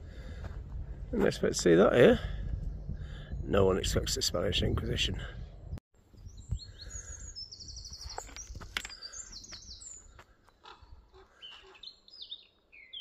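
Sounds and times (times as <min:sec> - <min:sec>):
small birds chirping and singing: 0:01.2 - 0:13.0.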